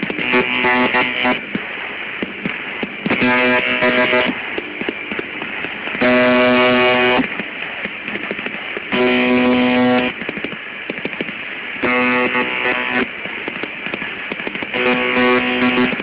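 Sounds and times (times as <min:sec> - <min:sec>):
crackling radio static: 0:00.0 - 0:16.0
harsh radio buzzes: 0:00.0 - 0:16.0.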